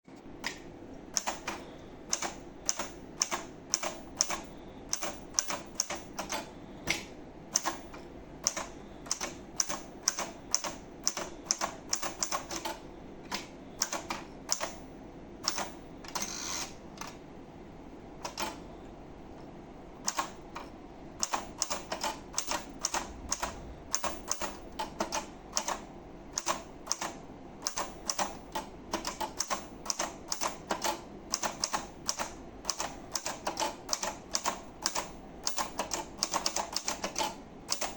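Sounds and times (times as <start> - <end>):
typewriter keystrokes: 0.4 - 14.8, 15.4 - 17.2, 18.2 - 18.6, 20.0 - 37.9.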